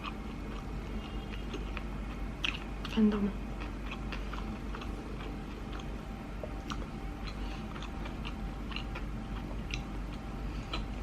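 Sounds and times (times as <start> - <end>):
faint low hum: 0.0 - 11.0
wet mouth chewing clicks: 0.0 - 11.0.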